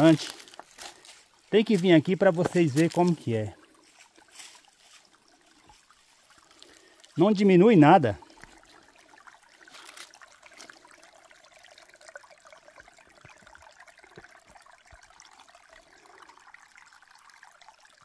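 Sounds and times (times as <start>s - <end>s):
water trickling over stones: 0.0s - 18.0s.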